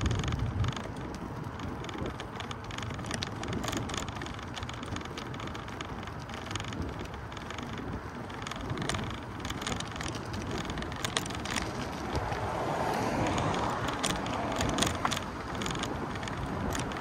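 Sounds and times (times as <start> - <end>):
light clicks and taps: 0.0 - 17.0
vehicle tyre noise: 0.0 - 17.0.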